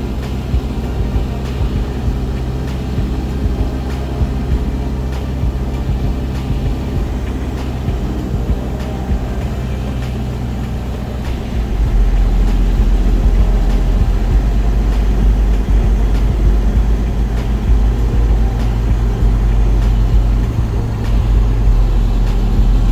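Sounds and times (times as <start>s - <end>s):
light aircraft engine drone: 0.0s - 22.9s.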